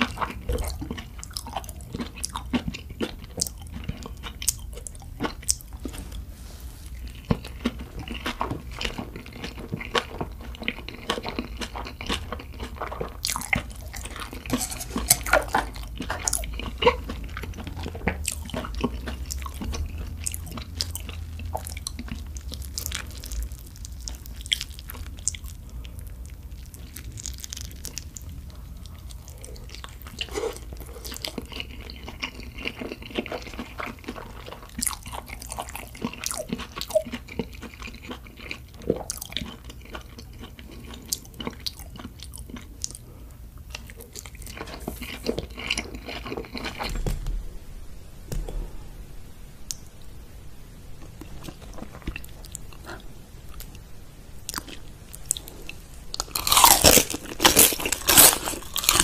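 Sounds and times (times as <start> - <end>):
chewing and biting dumplings: 0.0 - 6.3, 6.9 - 47.0, 51.0 - 59.0
low steady hum: 0.0 - 59.0.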